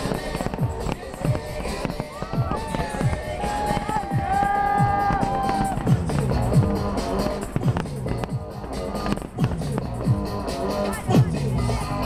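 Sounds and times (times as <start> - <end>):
firework bangs: 0.0 - 11.3
loud pop music: 0.0 - 12.0.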